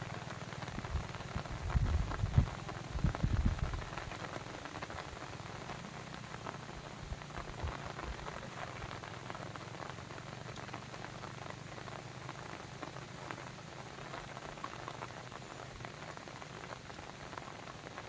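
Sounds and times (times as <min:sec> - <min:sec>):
water patter and splash: 0:00.0 - 0:18.0.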